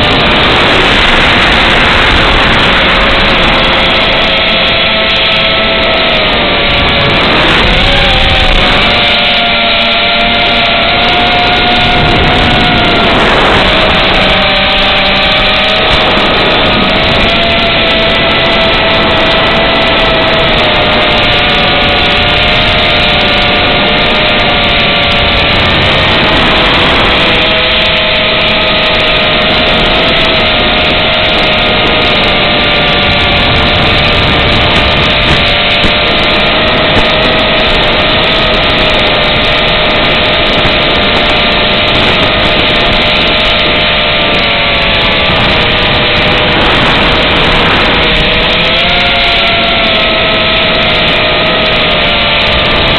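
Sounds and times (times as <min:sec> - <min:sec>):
quadcopter propellers whining: 0:00.0 - 0:52.9.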